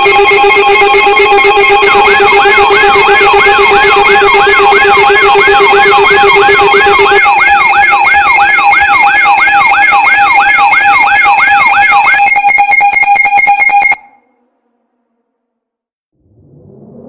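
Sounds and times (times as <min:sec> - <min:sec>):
electronic alarm siren: 0:00.0 - 0:14.4.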